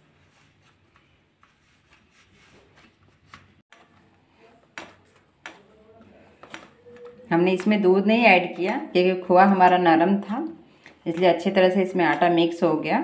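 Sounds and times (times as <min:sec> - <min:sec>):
dough kneaded by hand: 0:00.0 - 0:13.0.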